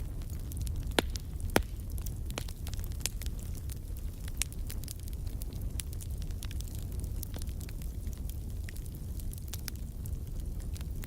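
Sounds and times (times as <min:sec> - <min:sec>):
firewood crackling and popping: 0:00.0 - 0:11.0.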